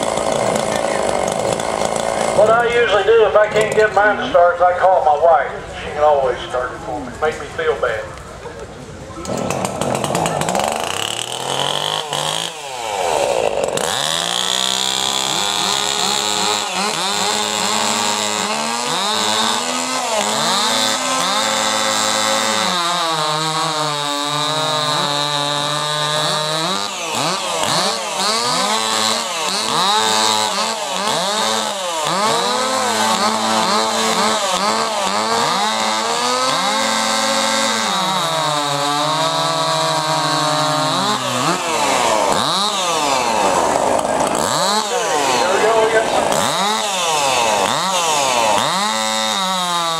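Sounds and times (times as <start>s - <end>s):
chainsaws cutting log: 0.0s - 5.2s, 9.2s - 49.9s.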